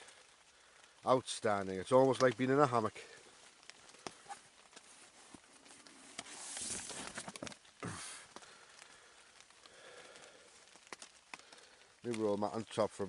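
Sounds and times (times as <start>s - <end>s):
faint rustling: 1.9s - 12.7s.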